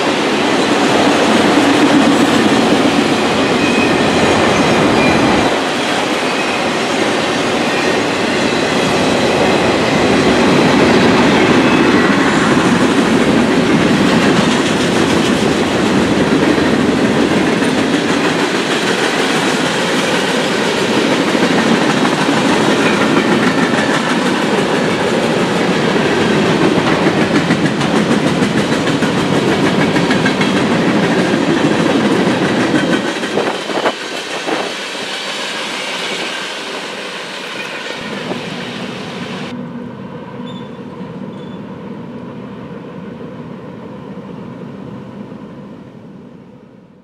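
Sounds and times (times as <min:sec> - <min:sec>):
freight train wheels clacking: 0:00.0 - 0:39.6.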